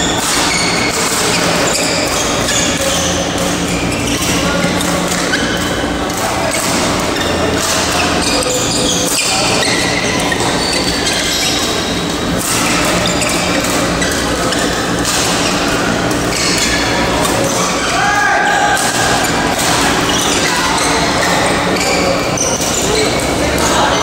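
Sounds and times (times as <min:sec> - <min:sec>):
shoe squeaks on court: 0:00.0 - 0:17.9, 0:18.5 - 0:24.0.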